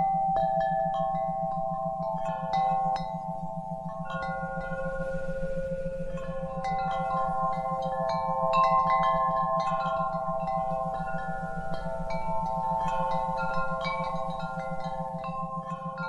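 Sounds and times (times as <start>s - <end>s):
wind chimes ringing: 0.0s - 16.0s.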